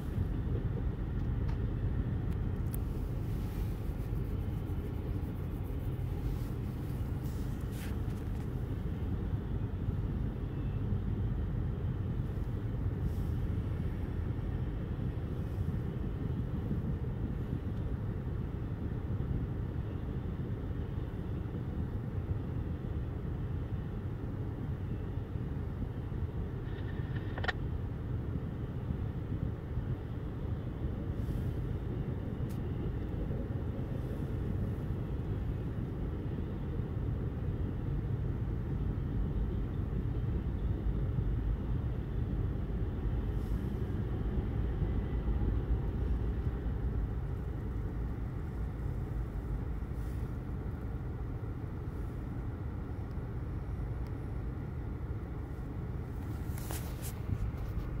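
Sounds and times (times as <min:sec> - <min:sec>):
freight train rumble muffled: 0:00.0 - 0:58.0.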